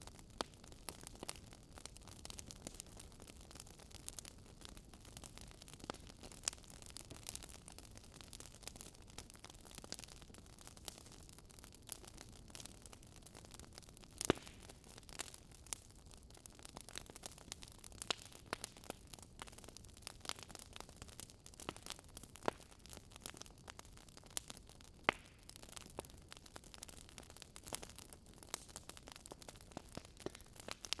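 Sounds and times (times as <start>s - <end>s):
logs crackling and popping: 0.0s - 31.0s.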